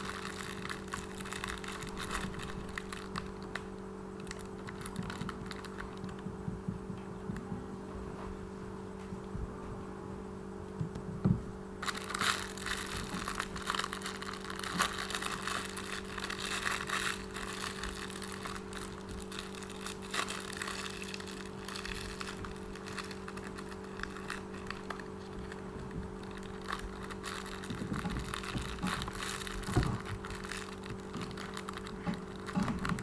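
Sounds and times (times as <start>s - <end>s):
crinkly material rustling: 0.0s - 6.4s, 11.8s - 33.0s.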